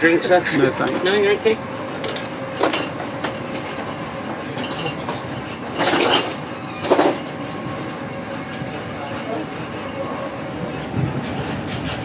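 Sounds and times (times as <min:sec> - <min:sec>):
train coach running on track: 0:00.0 - 0:12.0.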